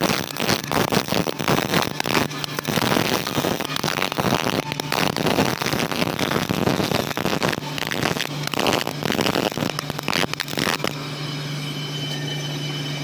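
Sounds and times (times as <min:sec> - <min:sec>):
welding arc crackling: 0:00.0 - 0:11.2
steady low hum: 0:00.0 - 0:13.0.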